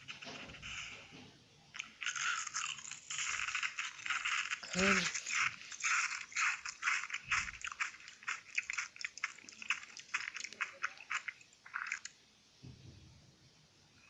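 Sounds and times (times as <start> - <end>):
crunchy chewing: 0.0 - 1.2, 1.8 - 12.2.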